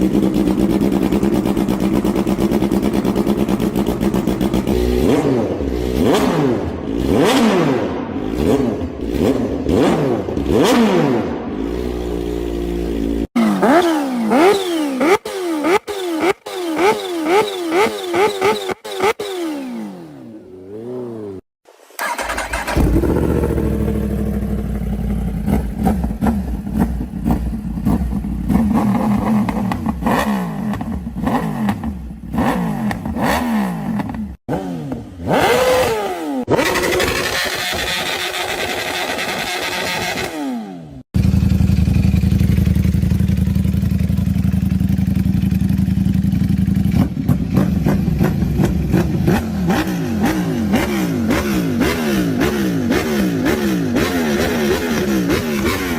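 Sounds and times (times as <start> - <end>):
motorcycle engine revving: 0.0 - 21.4, 22.0 - 55.9.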